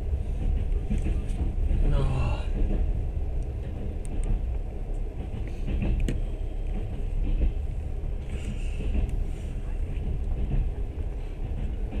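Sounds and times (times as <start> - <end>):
moving train rumble: 0.0 - 12.0.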